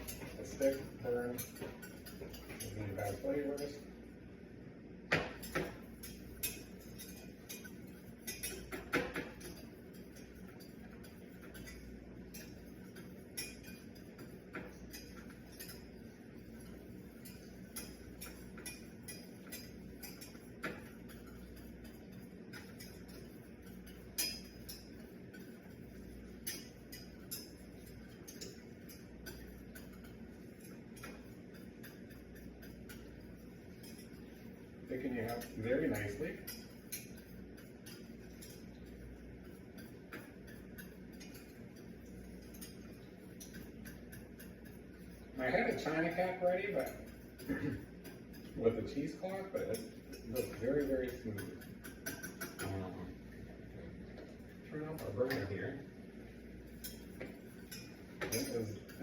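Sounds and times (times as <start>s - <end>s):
utensil stirring sauce: 0.0s - 4.5s, 5.4s - 59.0s
steady low hum: 0.0s - 59.0s
utensil clinking against pan: 5.1s - 52.8s, 56.7s - 59.0s.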